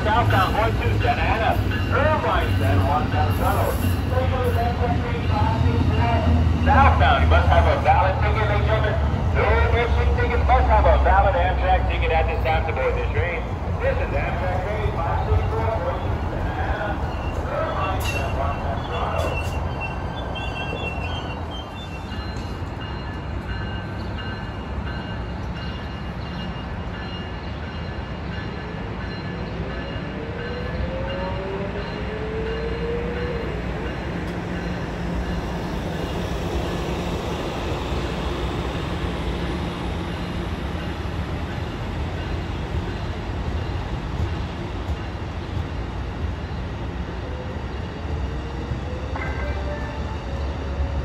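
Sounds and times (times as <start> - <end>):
diesel train rumble: 0.0 - 51.0
train whines: 0.0 - 51.0.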